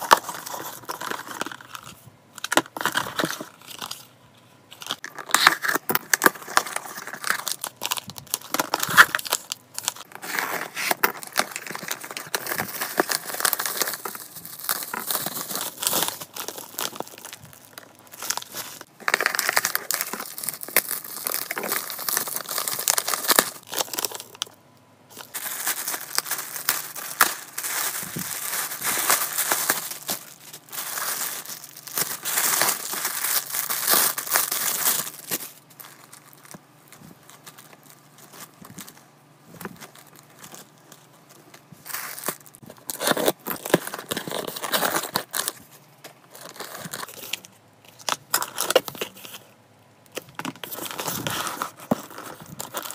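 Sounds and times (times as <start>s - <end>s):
plastic packaging crinkling: 0.0s - 4.1s, 4.7s - 49.5s, 50.1s - 52.9s.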